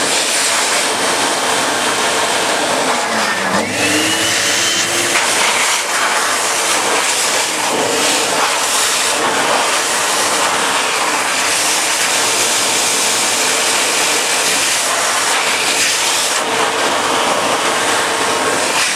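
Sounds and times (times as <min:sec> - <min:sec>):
electric hand dryer blowing air: 0:00.0 - 0:18.9.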